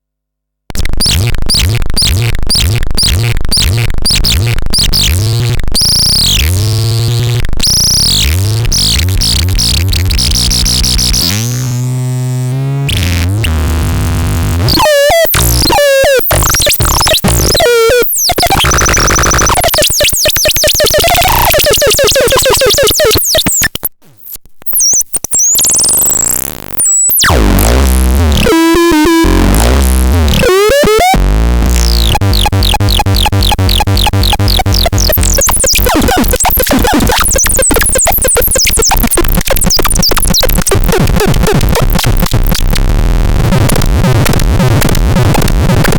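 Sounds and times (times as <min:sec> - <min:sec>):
synthesized electronic sounds: 0:00.8 - 0:45.9.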